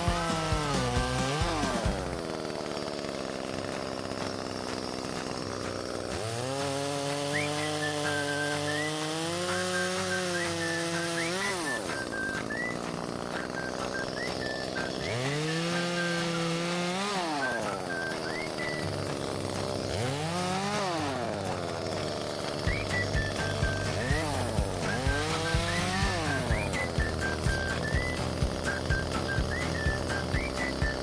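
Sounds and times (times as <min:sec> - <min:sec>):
chainsaw revving and idling: 0:00.0 - 0:31.0.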